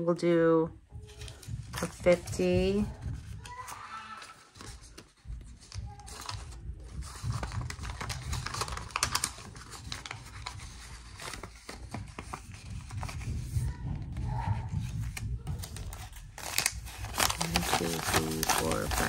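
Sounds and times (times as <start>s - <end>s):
paper money rustling: 1.0s - 13.6s, 15.0s - 19.0s.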